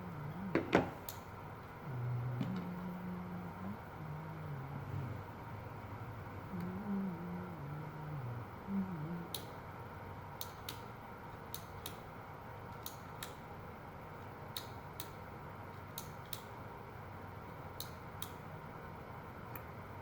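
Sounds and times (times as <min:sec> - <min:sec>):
tape mechanism humming: 0:00.0 - 0:20.0.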